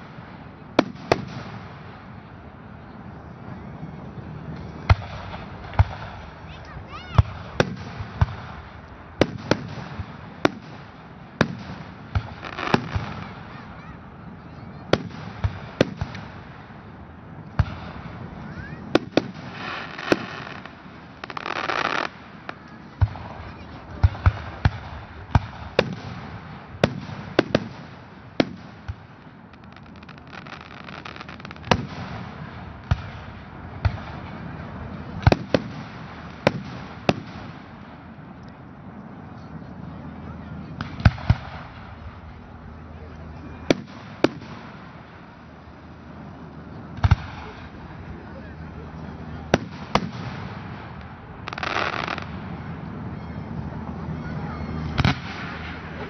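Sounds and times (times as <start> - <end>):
fireworks bursting: 0.0 - 56.0
steady background hiss: 0.0 - 56.0.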